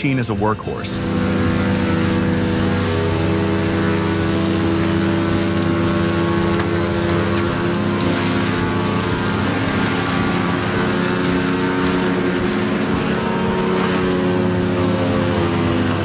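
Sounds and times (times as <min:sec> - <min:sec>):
heavy machine engine droning: 0:00.7 - 0:16.0.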